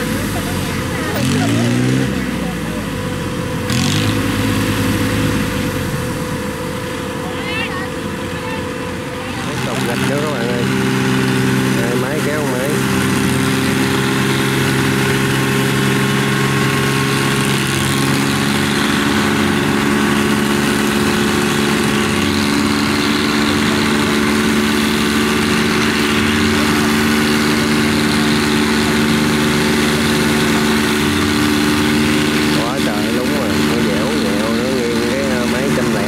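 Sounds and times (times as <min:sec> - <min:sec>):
diesel engines idling: 0:00.0 - 0:36.0.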